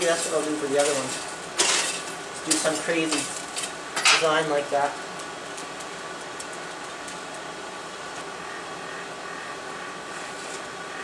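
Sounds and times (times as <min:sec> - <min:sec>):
forge rushing hum: 0:00.0 - 0:11.0.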